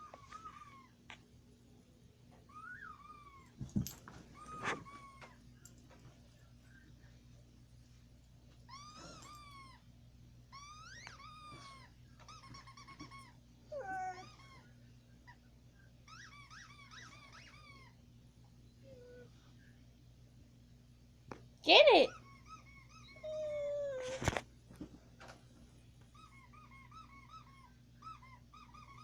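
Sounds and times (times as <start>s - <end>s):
pet whining: 0.0s - 1.4s, 2.3s - 7.4s, 8.5s - 19.8s, 21.7s - 29.0s.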